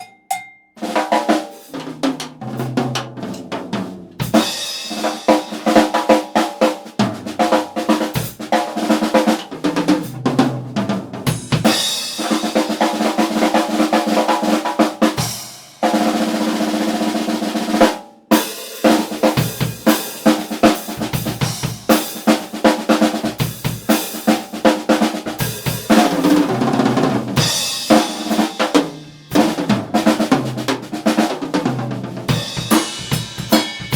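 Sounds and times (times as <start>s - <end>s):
snare drum played with sticks: 0.0s - 33.9s.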